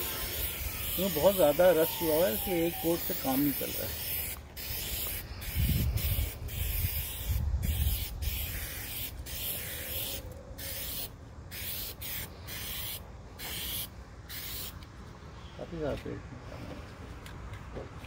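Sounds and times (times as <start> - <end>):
spray paint can hissing: 0.0 - 14.8.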